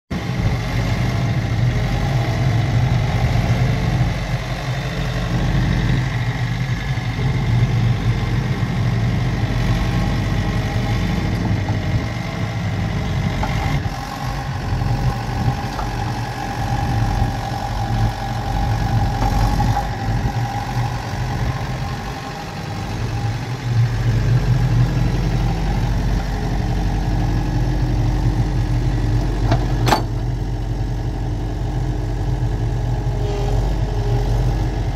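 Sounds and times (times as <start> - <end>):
mower diesel engine running: 0.1 - 34.9.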